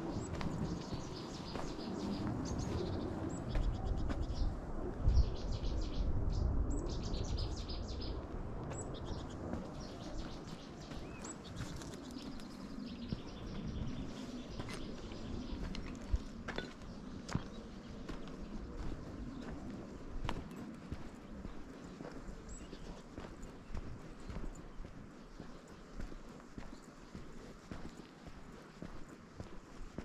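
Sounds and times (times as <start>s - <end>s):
low rumbling noise: 0.0s - 26.3s
small birds chirping: 0.0s - 30.0s.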